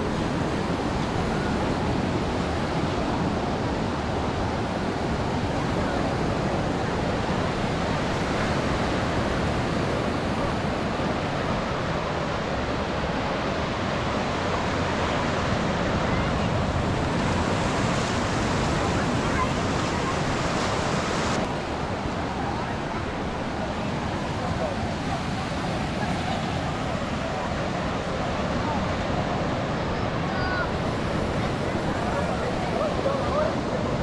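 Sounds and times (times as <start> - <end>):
ocean surf on beach: 0.0 - 34.0.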